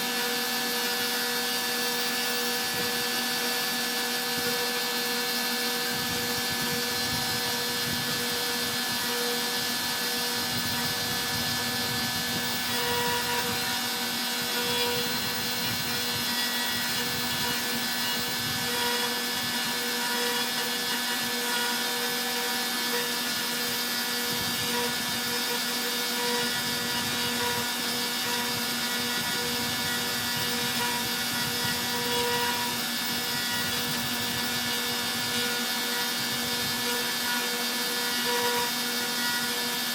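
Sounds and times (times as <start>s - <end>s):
bit carving into wood: 0.0s - 39.9s
router spindle whining: 0.0s - 39.9s.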